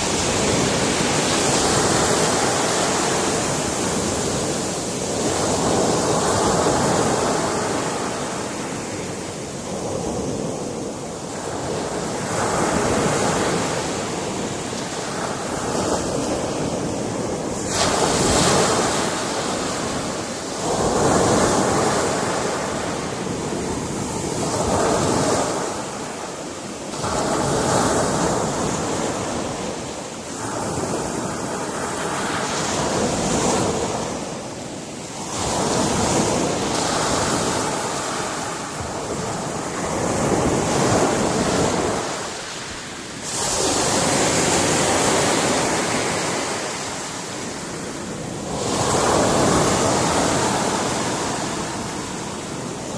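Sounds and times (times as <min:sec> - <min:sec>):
wind: 0:00.0 - 0:52.9.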